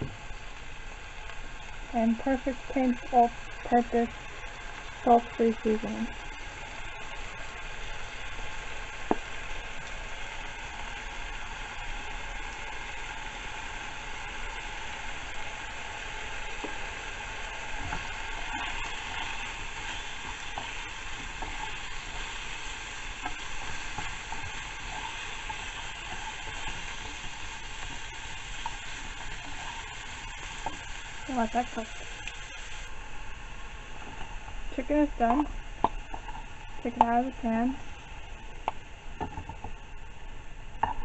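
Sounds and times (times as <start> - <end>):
chicken sizzling in oil: 0.0 - 40.9.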